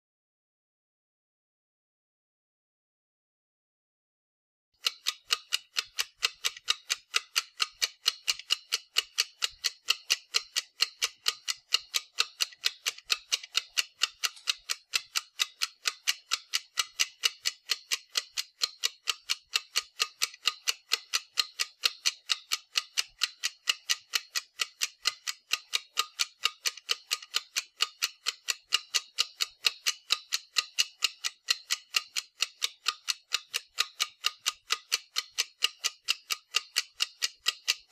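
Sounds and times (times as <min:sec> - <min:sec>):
clock ticking rapidly: 0:04.8 - 0:37.9.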